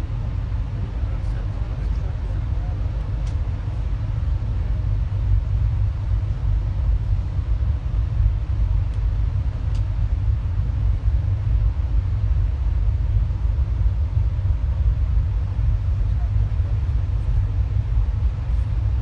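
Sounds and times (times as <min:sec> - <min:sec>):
moving train rumble: 0:00.0 - 0:19.0.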